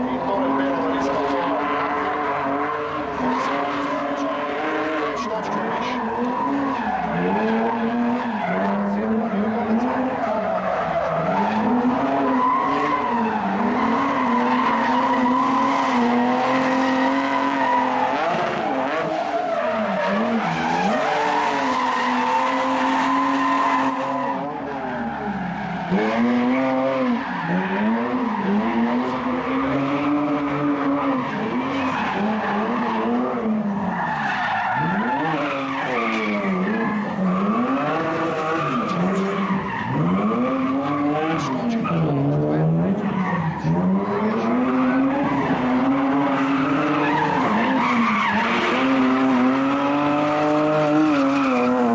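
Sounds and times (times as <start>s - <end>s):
car engines revving hard: 0.0s - 51.9s
tyres spinning and skidding: 0.0s - 51.9s.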